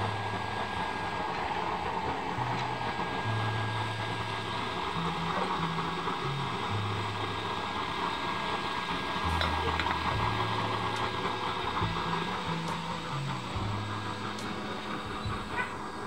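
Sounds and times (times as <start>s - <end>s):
oil burner roaring: 0.0s - 16.0s.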